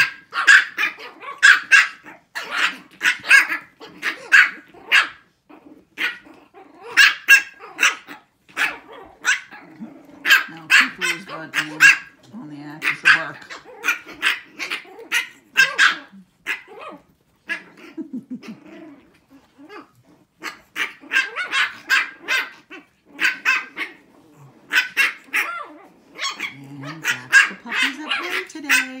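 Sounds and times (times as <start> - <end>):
puppies barking: 0.0 - 29.0.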